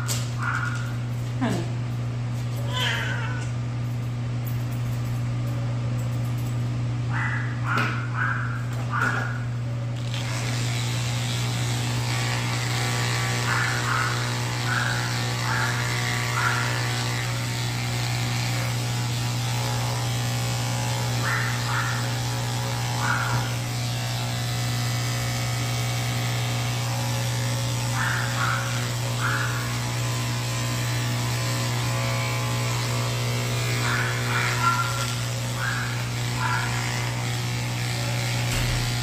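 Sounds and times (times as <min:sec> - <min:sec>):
electric clipper motor hum: 0:00.0 - 0:39.0.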